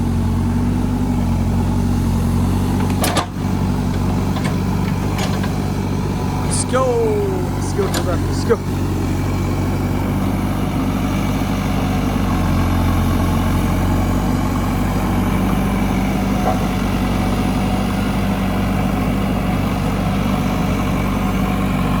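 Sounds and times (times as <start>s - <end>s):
bulldozer diesel engine humming: 0.0s - 22.0s.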